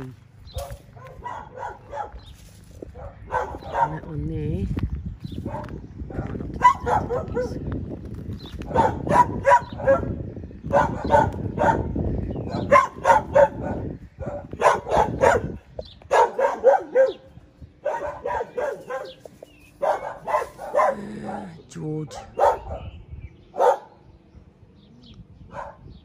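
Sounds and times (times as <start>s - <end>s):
dogs barking: 0.5s - 4.2s, 5.3s - 7.7s, 8.5s - 24.2s, 25.4s - 26.0s.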